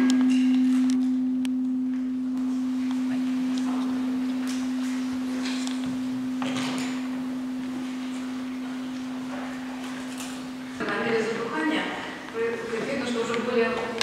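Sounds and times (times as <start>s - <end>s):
tuning fork ringing: 0.0s - 12.3s.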